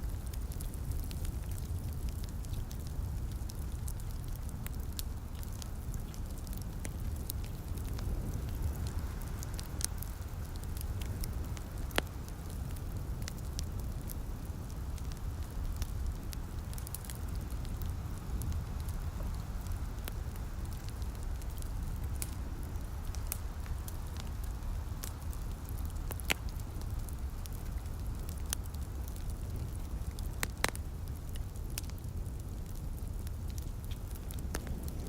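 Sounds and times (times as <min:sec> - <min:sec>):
light rain: 0:00.0 - 0:35.0
wood fire crackling and popping: 0:00.0 - 0:35.0.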